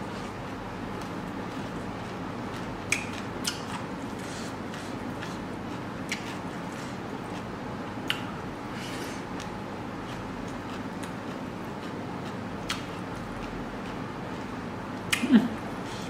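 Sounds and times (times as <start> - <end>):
chewing: 0.0 - 15.2
low background hum: 0.0 - 16.0.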